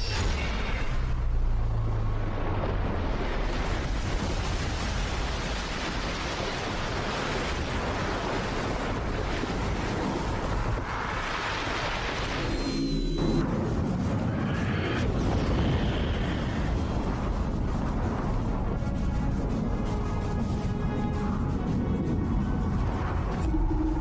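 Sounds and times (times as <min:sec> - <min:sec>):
deep rumble: 0:00.0 - 0:24.0
sea water surging and crashing: 0:00.0 - 0:24.0
wind: 0:00.0 - 0:24.0.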